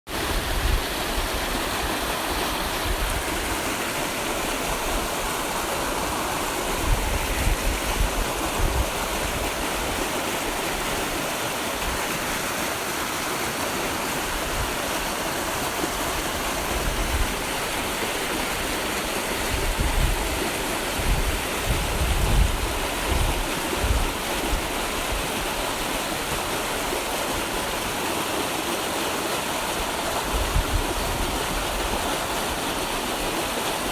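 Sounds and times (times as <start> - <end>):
flowing water rushing: 0.1 - 33.9.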